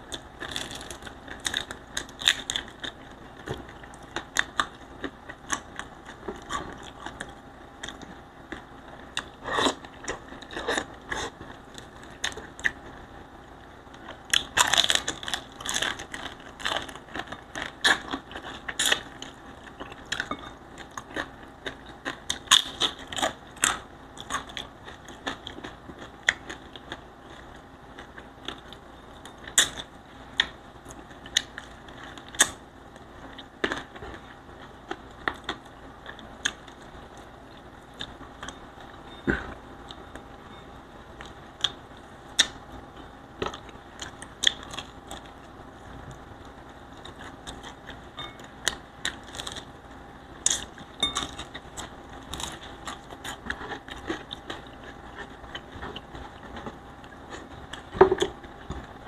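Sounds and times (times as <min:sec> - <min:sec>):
crunching and chewing fried fish: 0:00.0 - 0:40.3, 0:41.1 - 0:59.0
crackling: 0:00.0 - 0:59.0.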